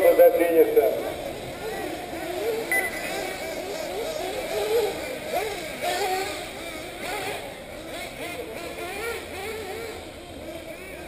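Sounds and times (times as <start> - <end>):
model car engines whining: 0.0 - 11.0.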